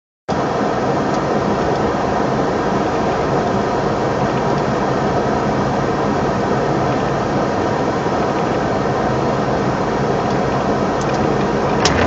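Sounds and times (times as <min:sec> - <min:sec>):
vehicle road and engine noise: 0:00.3 - 0:12.0.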